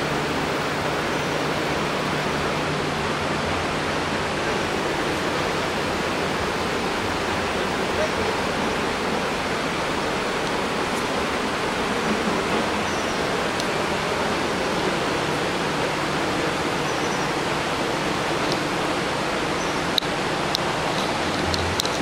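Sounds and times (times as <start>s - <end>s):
rushing water roar: 0.0s - 22.0s.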